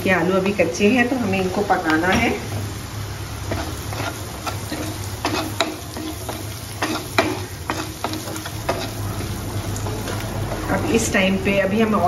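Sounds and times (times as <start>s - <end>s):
food sizzling in oil: 0.0s - 12.0s
spatula scraping pan: 0.4s - 12.0s.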